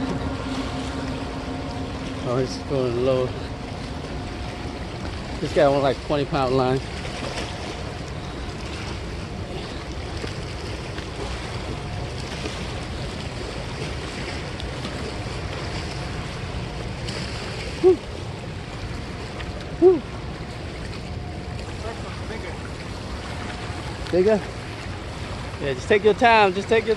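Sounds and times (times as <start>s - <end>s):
water lapping on rocky shore: 0.0s - 26.9s.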